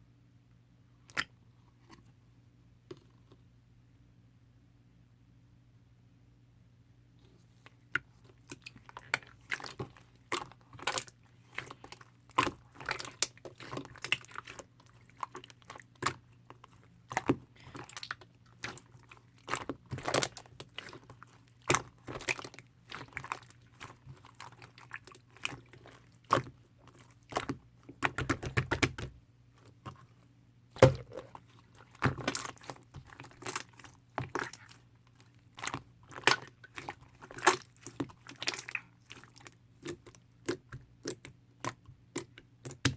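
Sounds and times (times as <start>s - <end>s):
slime squished by hand: 7.9s - 30.1s, 30.7s - 42.9s.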